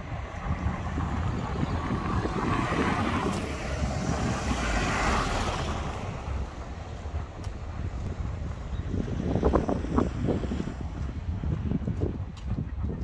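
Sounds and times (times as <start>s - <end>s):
car passing by: 0.0s - 11.3s
wind rumbling on microphone: 0.0s - 13.0s.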